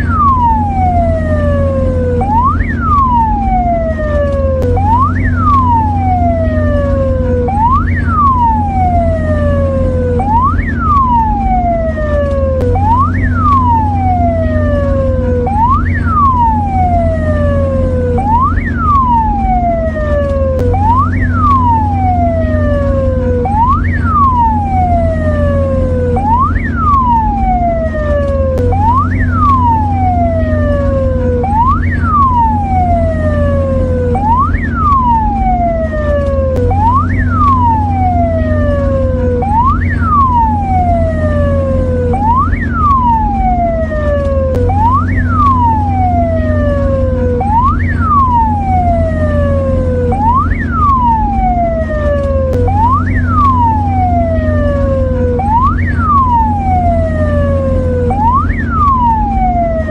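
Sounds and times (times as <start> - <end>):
ambulance siren wailing: 0.0 - 59.9
steady low hum: 0.0 - 59.9.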